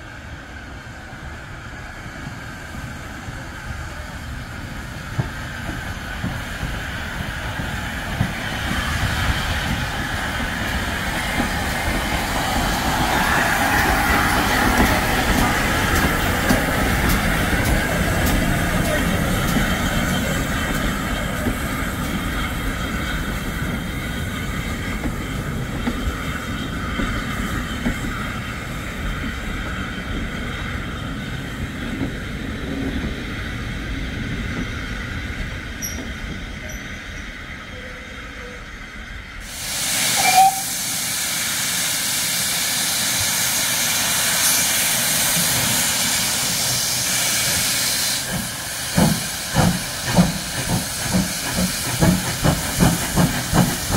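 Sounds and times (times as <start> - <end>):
steam locomotive hissing steam: 0.0 - 53.9
train coaches rolling on rails: 0.0 - 53.9.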